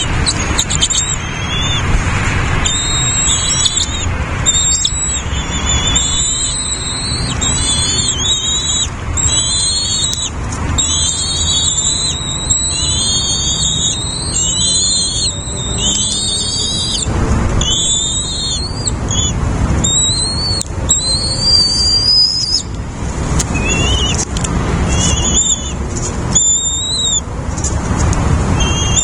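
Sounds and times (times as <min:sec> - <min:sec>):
nestlings begging calls: 0:00.0 - 0:27.8, 0:28.5 - 0:29.0
steady low rumble: 0:00.0 - 0:29.0.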